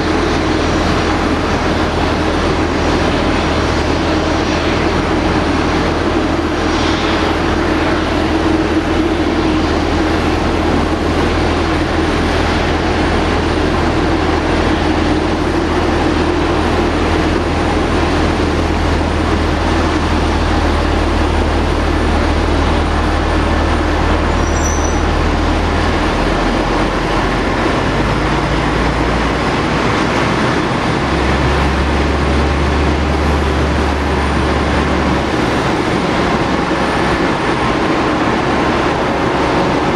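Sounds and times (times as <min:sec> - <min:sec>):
jet aircraft roar: 0:00.0 - 0:39.9.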